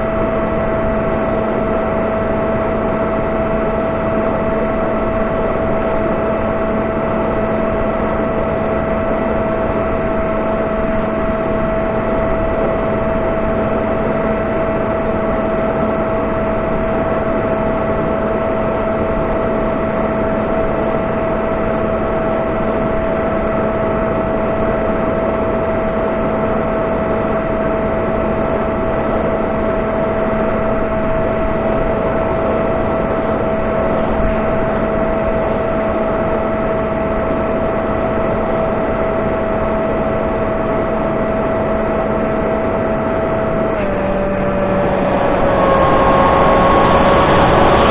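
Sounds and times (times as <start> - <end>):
electric motor propeller whine: 0.0 - 47.9.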